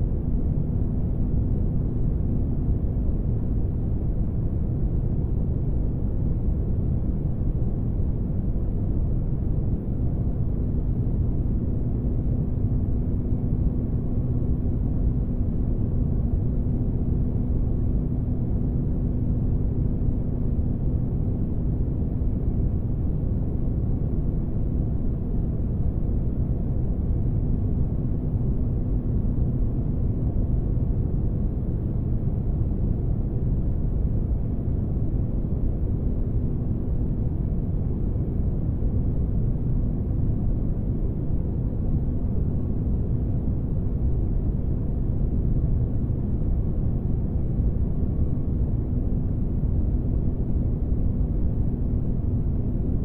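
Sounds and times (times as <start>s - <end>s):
faint constant hum: 0.0s - 53.0s.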